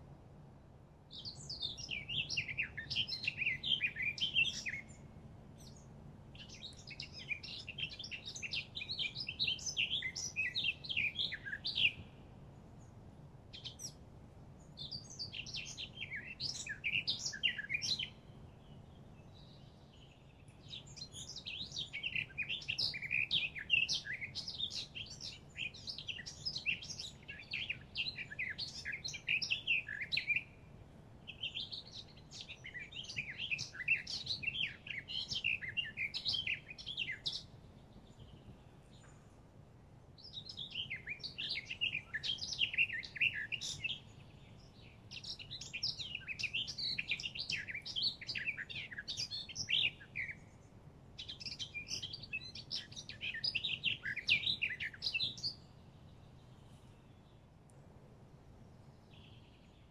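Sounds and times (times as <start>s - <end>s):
songbird twittering: 1.1s - 12.9s, 13.5s - 14.0s, 14.6s - 39.3s, 40.2s - 57.5s.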